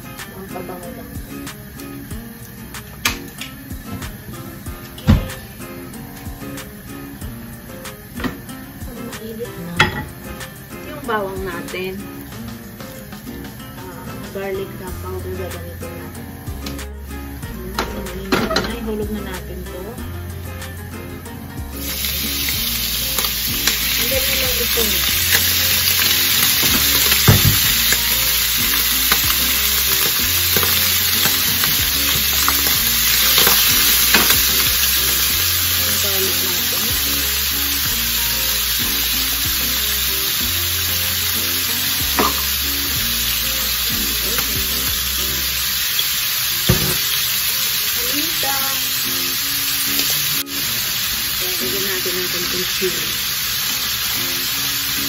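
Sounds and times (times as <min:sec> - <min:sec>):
squid sizzling in hot oil: 0:00.0 - 0:55.0.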